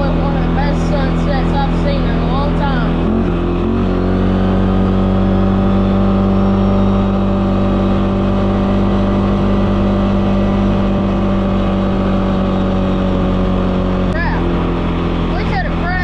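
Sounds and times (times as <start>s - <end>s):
four-wheeler engine running: 0.0s - 16.0s.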